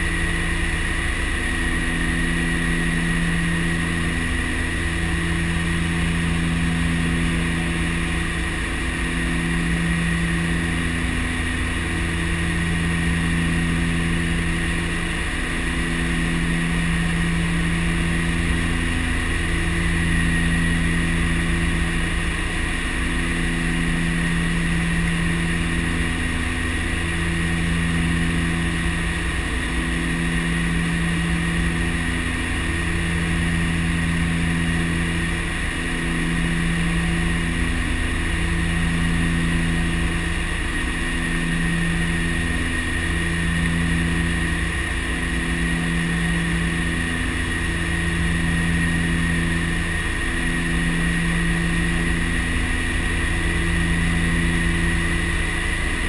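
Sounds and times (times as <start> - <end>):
turbine whine: 0.0 - 56.0
turboprop engines droning: 0.0 - 56.0.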